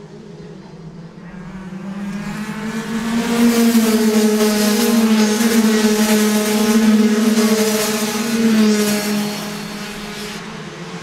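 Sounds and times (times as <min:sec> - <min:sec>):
kart engines racing: 0:00.0 - 0:11.0.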